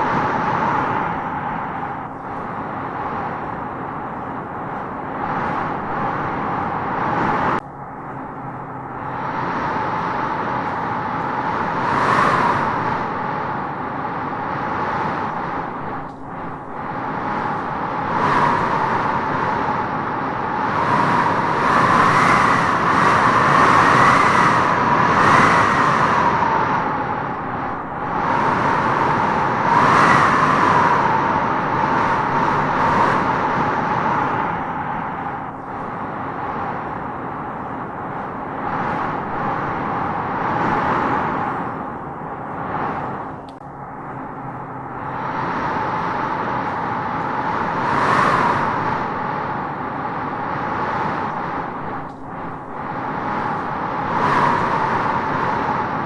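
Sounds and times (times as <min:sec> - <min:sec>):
hollow whistling howl of wind: 0:00.0 - 0:56.0
wind blowing in gusts: 0:00.0 - 0:56.0.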